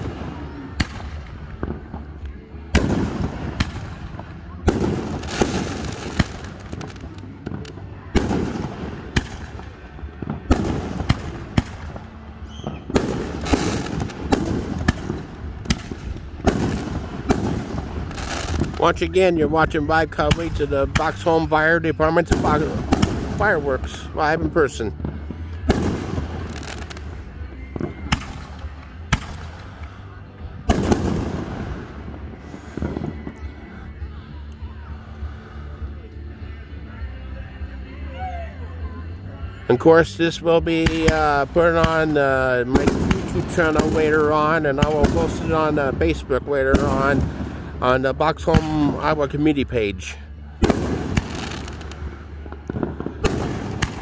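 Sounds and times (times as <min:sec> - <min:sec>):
fireworks bangs: 0:00.0 - 0:33.8, 0:40.2 - 0:49.9, 0:50.6 - 0:54.0
fireworks crackling: 0:00.0 - 0:34.6, 0:39.7 - 0:54.0.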